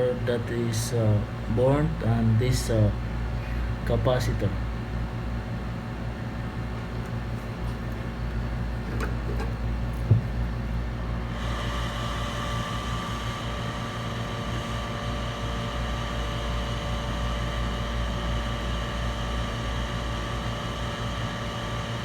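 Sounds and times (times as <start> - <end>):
machine hum: 0.0 - 21.9.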